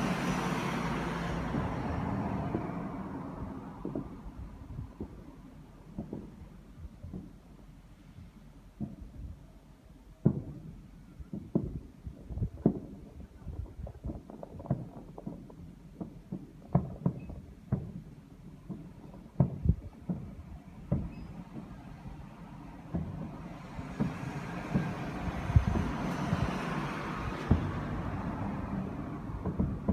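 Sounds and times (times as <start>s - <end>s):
fireworks booming: 0.0s - 29.9s.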